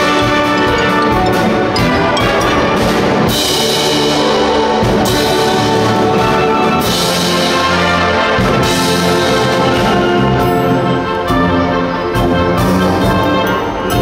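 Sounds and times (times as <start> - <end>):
wind band playing: 0.0 - 14.0.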